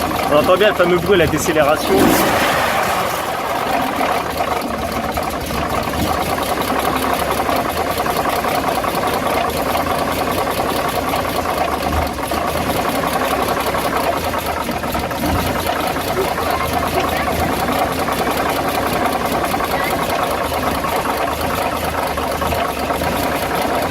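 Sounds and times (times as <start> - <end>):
engine running with rapid clatter: 0.0 - 23.9.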